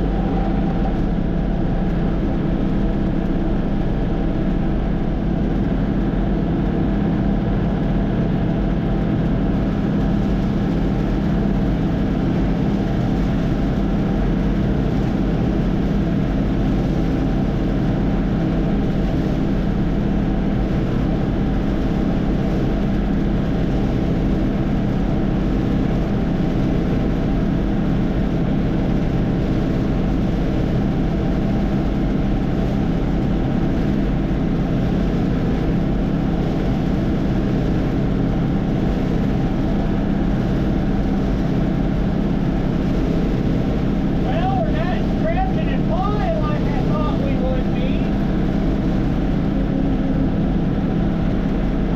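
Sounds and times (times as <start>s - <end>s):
combine harvester engine drone: 0.0s - 51.9s
threshing machinery hum: 0.0s - 51.9s.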